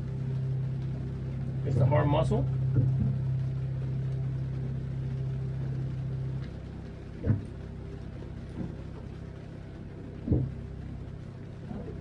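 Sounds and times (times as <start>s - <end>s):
deep drone: 0.0s - 12.0s
low hum of boat machinery: 0.0s - 12.0s.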